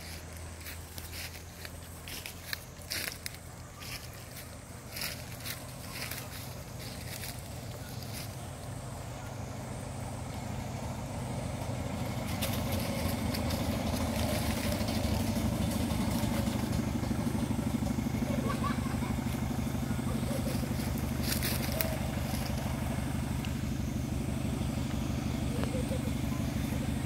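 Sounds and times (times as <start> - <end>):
motorbike engine humming: 0.0 - 27.0.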